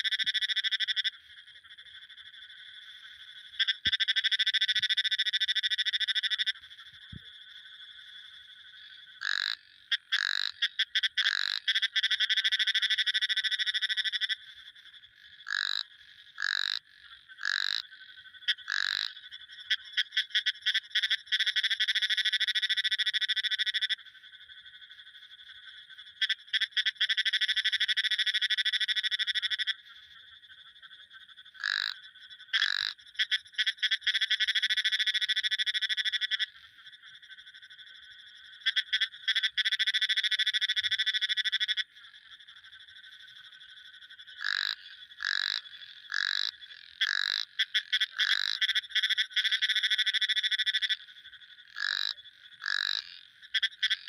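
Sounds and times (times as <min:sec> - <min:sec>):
frogs calling in trills: 0:00.0 - 0:54.0.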